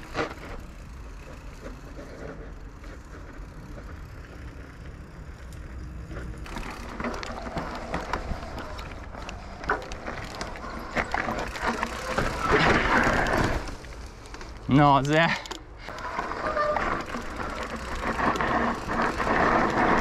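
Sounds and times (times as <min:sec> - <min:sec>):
bike tyres crunching on dirt: 0:00.0 - 0:15.3, 0:16.0 - 0:20.0
bike knocking and rattling: 0:00.0 - 0:20.0.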